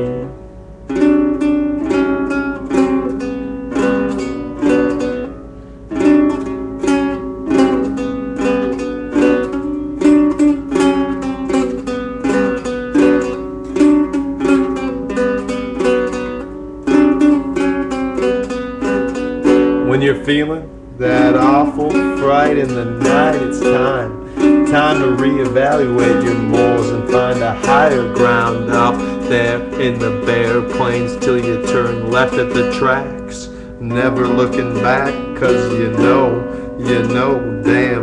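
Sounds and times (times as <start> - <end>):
acoustic string instrument strummed: 0.0 - 38.0.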